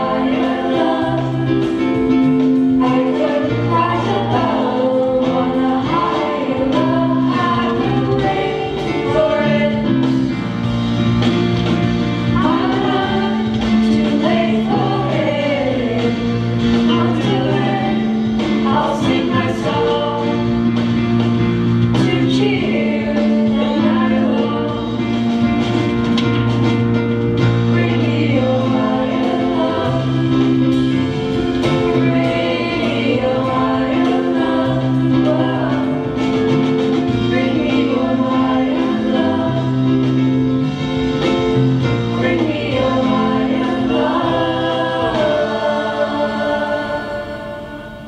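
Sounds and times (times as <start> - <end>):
choir singing: 0.0 - 10.7, 12.2 - 21.0, 21.9 - 25.4, 27.5 - 41.1, 41.7 - 48.0
instrumental accompaniment: 0.0 - 48.0.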